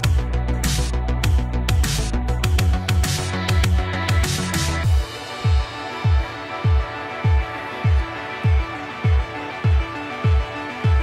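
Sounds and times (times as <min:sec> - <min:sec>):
drum beat: 0:00.0 - 0:11.0
electronic music: 0:00.0 - 0:11.0.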